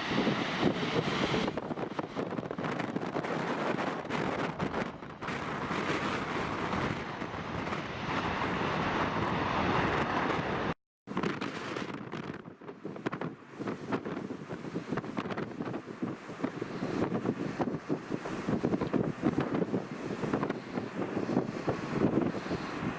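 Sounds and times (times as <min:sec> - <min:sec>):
gusty wind buffeting microphone: 0:00.0 - 0:22.9
jet airliner rumble: 0:00.0 - 0:22.9.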